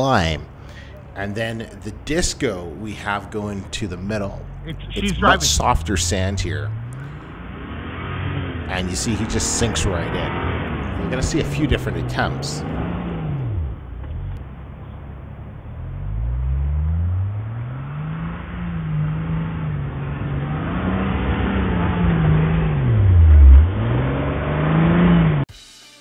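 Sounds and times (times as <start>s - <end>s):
car engine revving: 0.0s - 25.5s.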